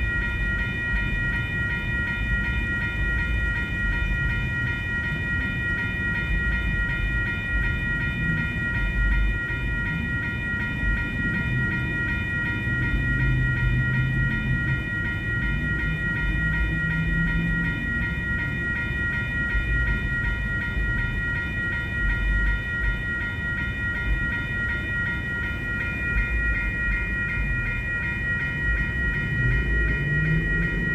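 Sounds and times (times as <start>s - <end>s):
freight train rumbling past: 0.0s - 30.9s
high-pitched ringing tone: 0.0s - 30.9s.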